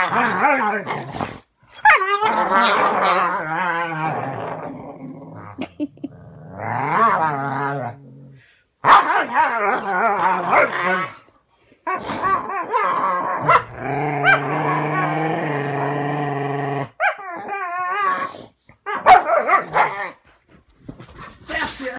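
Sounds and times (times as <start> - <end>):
dogs play-growling and whining: 0.0 - 21.5.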